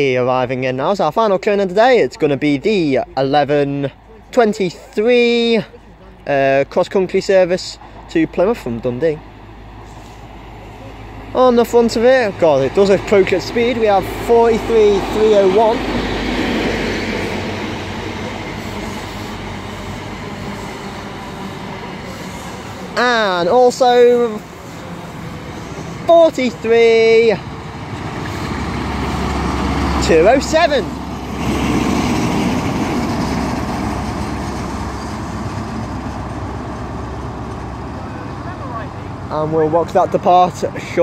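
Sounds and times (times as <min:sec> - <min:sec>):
train engine hum: 0:00.0 - 0:41.0
train wheels on rail: 0:07.8 - 0:40.9.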